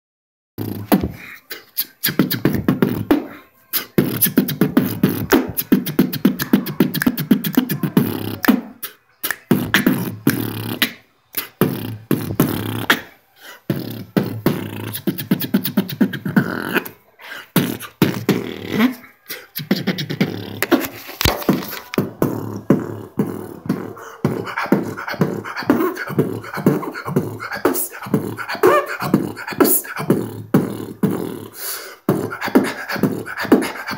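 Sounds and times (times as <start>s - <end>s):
man beatboxing: 0.6s - 33.9s.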